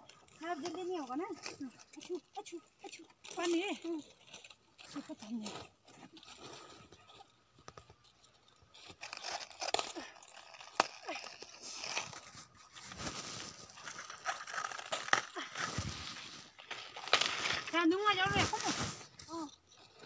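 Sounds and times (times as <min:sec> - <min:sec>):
cabbage leaves crunching and tearing: 0:00.0 - 0:07.3, 0:08.7 - 0:20.0
rustling handling: 0:00.0 - 0:20.0.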